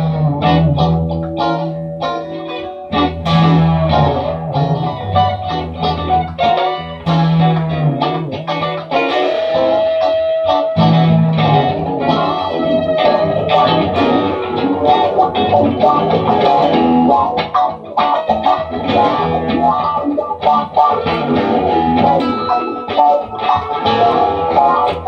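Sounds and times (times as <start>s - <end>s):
electric guitar playing: 0.0s - 25.0s.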